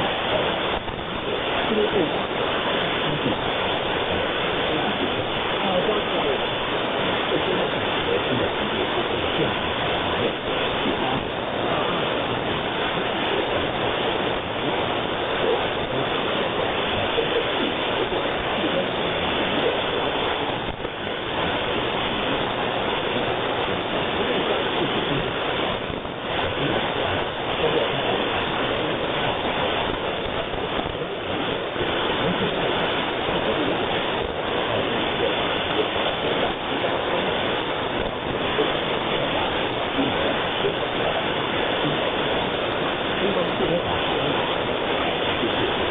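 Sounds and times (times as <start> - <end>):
shortwave radio hiss and static: 0.0 - 45.9.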